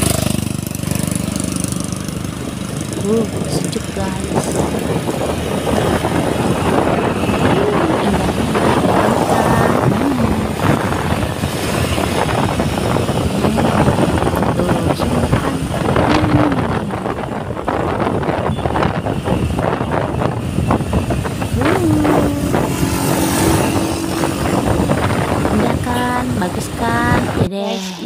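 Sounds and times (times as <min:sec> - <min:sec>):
motorcycle engine running: 0:00.0 - 0:27.4
wind rush on microphone: 0:00.0 - 0:27.5.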